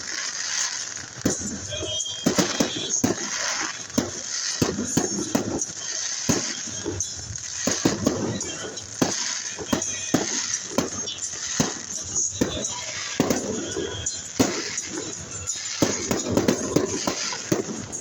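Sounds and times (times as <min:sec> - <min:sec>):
fireworks banging: 0:00.0 - 0:18.0
music playing: 0:00.2 - 0:18.0.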